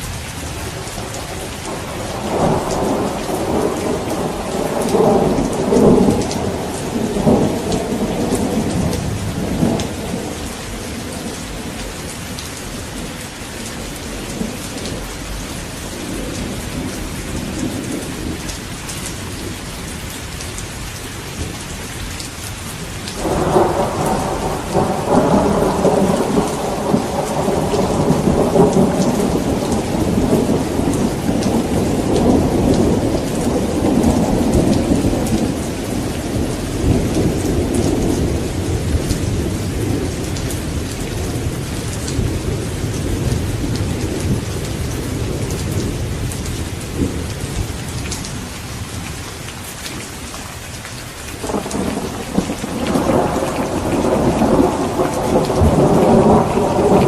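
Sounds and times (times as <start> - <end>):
heavy rain pattering: 0.0 - 57.0
thunder rumbling: 0.7 - 19.5, 23.2 - 49.1, 51.4 - 57.0.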